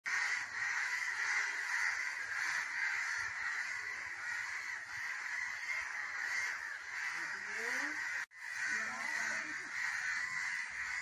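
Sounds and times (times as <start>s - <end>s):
crows cawing: 0.0s - 11.0s.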